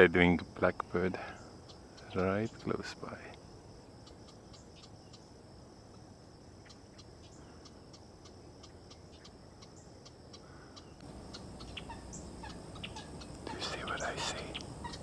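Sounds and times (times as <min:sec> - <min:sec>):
small birds chip calls: 0:00.0 - 0:15.0.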